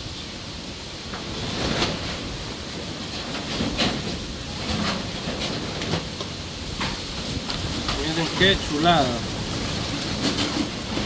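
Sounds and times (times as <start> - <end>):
gusty wind: 0.0 - 11.0
rain: 0.0 - 11.0
metal roofing sheets rattling: 1.2 - 11.0.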